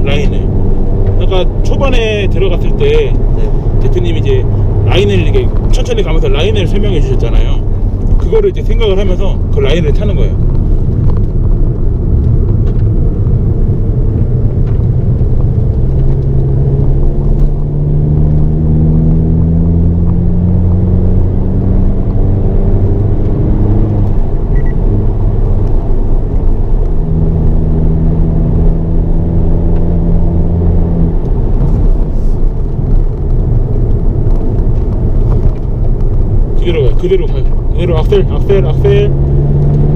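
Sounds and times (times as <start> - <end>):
car engine accelerating: 0.0 - 39.9
road noise rumble: 0.0 - 39.9.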